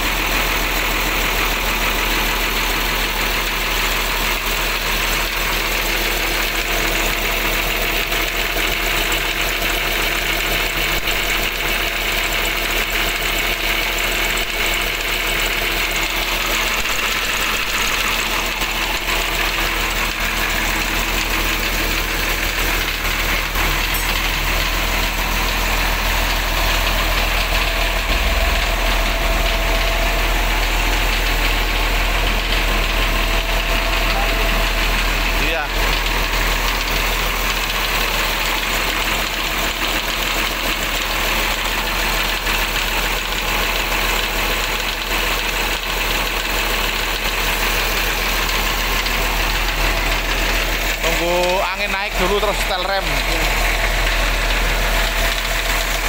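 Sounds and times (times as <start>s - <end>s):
belts and pulleys spinning: 0.0s - 56.0s
diesel bus engine idling: 0.0s - 56.0s.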